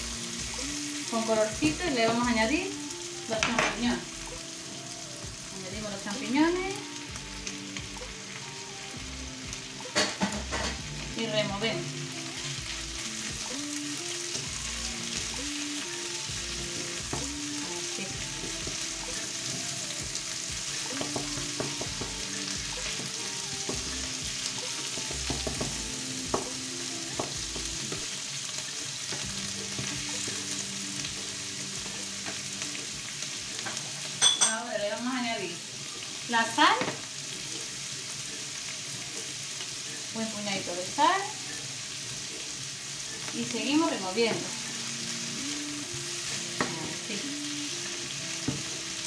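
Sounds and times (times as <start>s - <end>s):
food sizzling in a frying pan: 0.0s - 49.0s.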